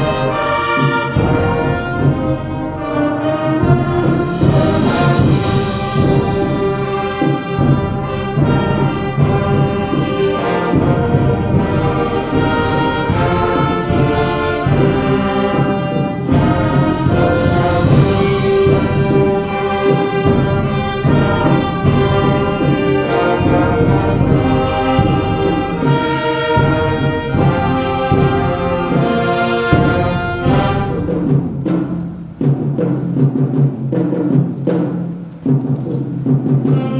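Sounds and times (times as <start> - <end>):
brass over sustained chords: 0.0 - 31.4
concert band playing: 0.0 - 36.9.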